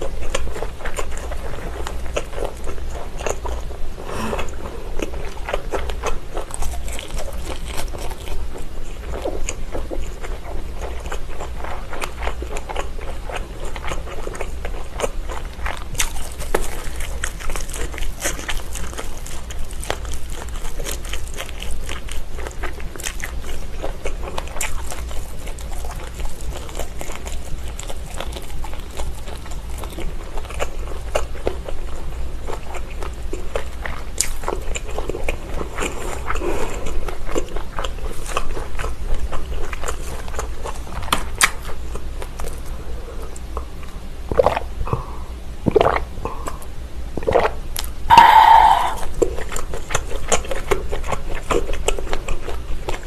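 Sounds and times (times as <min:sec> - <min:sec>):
wet chewing with clicks: 0:00.0 - 0:53.0.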